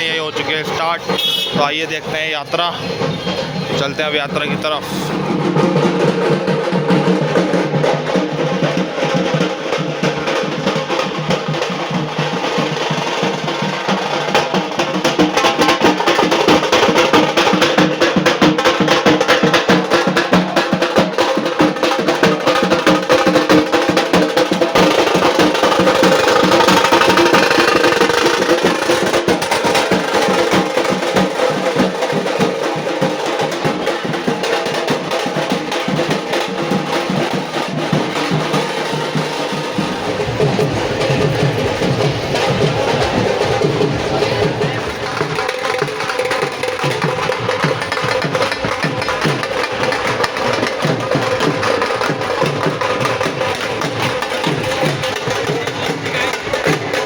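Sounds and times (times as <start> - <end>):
fast dense drumming: 0.0 - 57.0.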